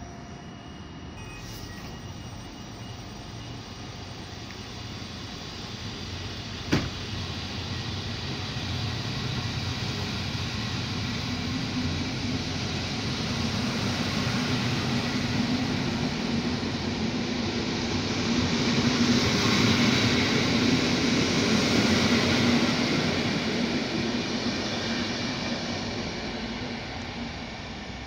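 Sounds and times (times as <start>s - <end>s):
train wheels rumbling on track: 1.2s - 28.0s.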